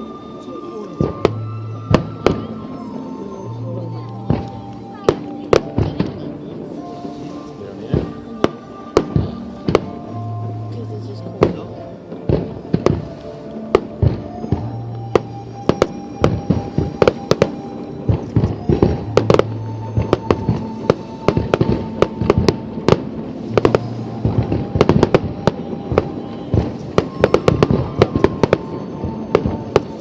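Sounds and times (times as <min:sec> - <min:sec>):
fireworks bangs and crackles: 0:00.0 - 0:30.0
music of long held notes: 0:00.0 - 0:30.0.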